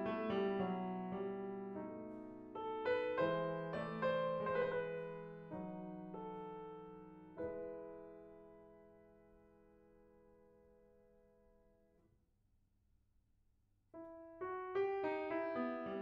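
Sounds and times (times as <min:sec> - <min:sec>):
slow piano music: 0:00.0 - 0:12.0, 0:14.0 - 0:16.0.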